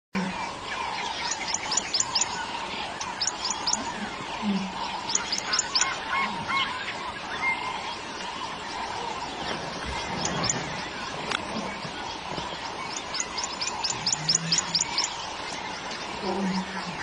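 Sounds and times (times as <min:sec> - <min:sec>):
lower bird chirping: 0:00.2 - 0:17.0
birds whistling: 0:00.7 - 0:17.0.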